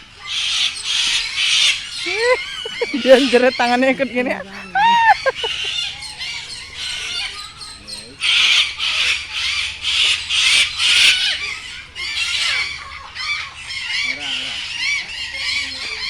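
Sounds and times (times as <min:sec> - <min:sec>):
cockatoo screeching: 0:00.2 - 0:16.0.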